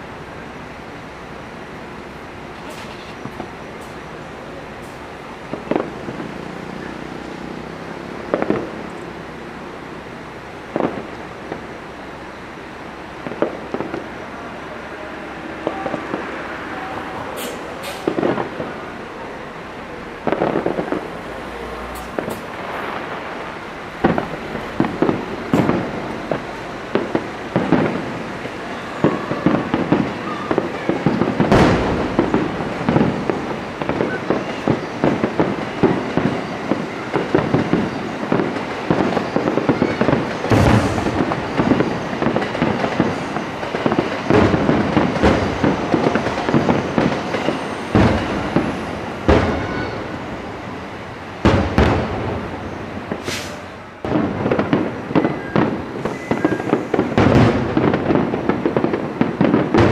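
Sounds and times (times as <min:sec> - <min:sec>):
fireworks booming: 0:00.0 - 0:59.9
fireworks crackling: 0:00.0 - 0:59.9
sharp fireworks bangs: 0:00.0 - 0:59.9.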